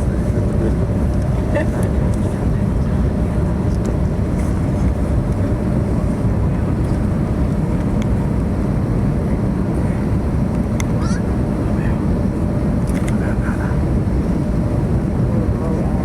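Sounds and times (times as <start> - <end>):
airplane cabin roar: 0.0 - 16.0.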